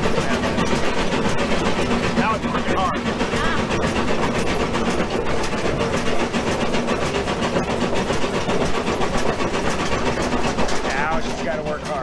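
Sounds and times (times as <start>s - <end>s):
steam exhaust chuffing: 0.0s - 12.0s
wheels clattering on rails: 0.0s - 12.0s.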